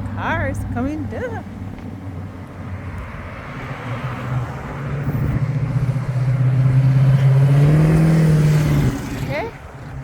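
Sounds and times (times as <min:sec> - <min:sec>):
antique car engine approaching: 0:00.0 - 0:10.0.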